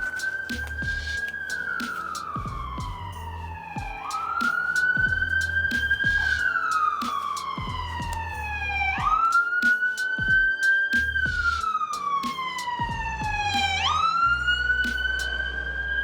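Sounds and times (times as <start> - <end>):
music with beat and bass line: 0.0 - 15.4
siren-like wail sliding in pitch: 0.0 - 16.0.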